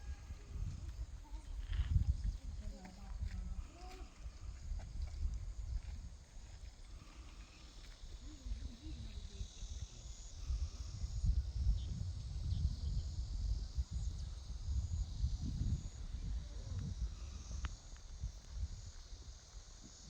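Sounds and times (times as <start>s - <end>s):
wind buffeting microphone: 0.0s - 7.3s, 8.2s - 20.0s.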